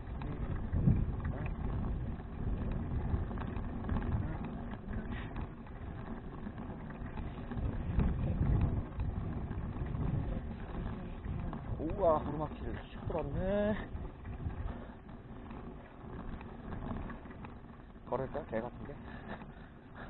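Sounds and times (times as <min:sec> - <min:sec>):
wind and road noise rumble: 0:00.0 - 0:20.0.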